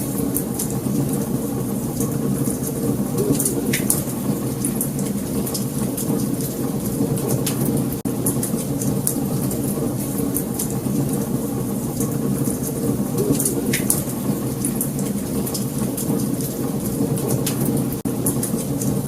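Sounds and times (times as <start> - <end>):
low roar of flames: 0.0 - 19.0
fire crackling and popping: 0.1 - 19.0.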